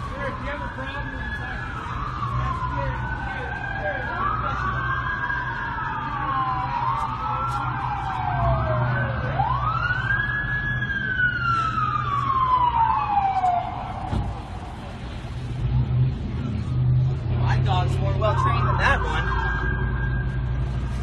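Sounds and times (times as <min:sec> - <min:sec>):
emergency sirens wailing: 0:00.0 - 0:21.0.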